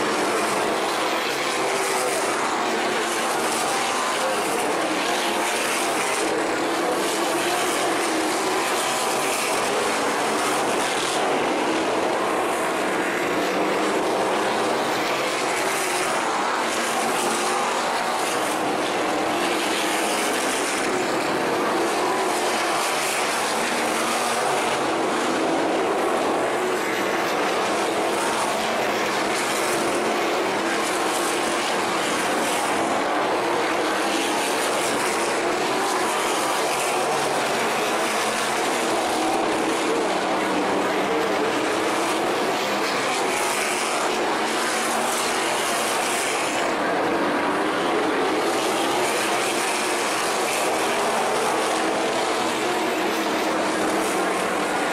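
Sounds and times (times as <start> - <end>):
racing car engines: 0.0 - 54.9.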